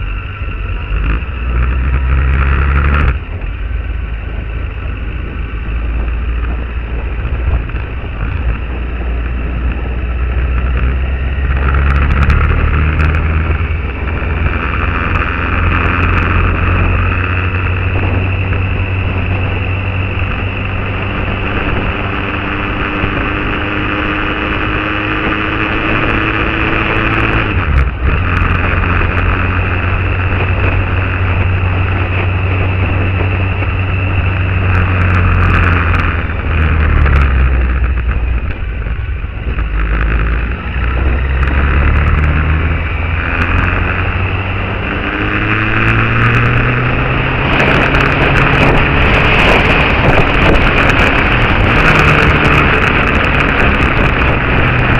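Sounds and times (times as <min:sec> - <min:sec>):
motorcycle engine running: 0:00.0 - 0:54.9
wind on microphone: 0:00.0 - 0:54.9.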